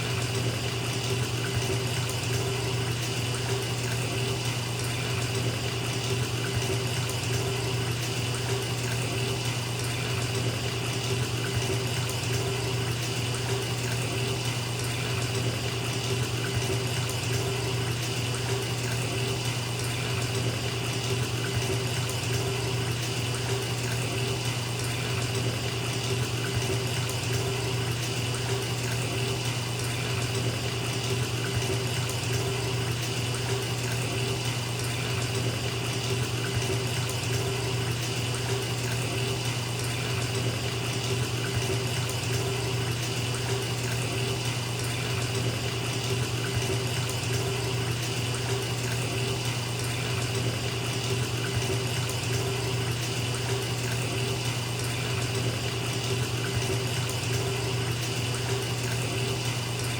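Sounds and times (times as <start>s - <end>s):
water running from bathtub tap: 0.0s - 59.9s.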